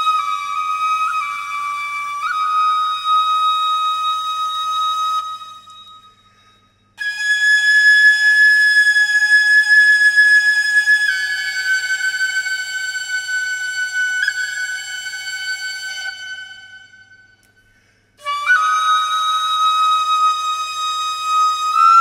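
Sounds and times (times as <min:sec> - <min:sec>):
bamboo flute melody: 0:00.0 - 0:06.4, 0:07.0 - 0:17.5, 0:18.2 - 0:22.0.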